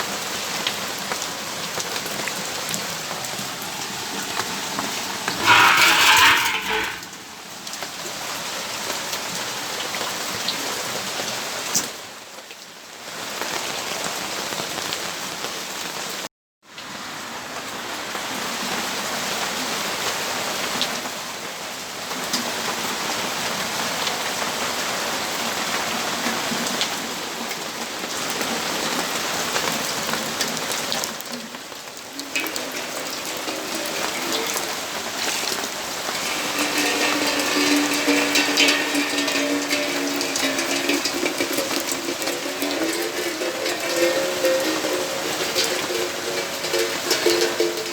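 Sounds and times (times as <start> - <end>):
rain falling steadily: 0.0 - 47.9.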